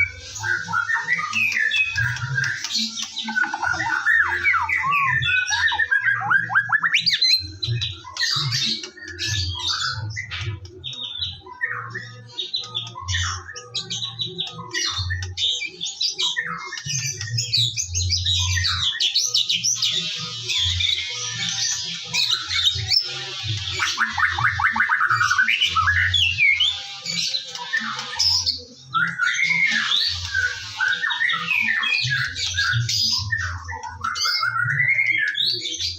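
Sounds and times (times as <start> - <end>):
bird singing whistles and trills: 0.0 - 35.9.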